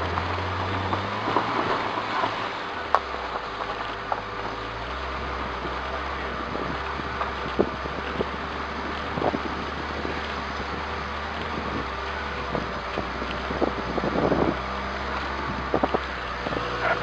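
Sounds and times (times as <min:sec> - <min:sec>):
car engine pulling uphill: 0:00.0 - 0:17.0.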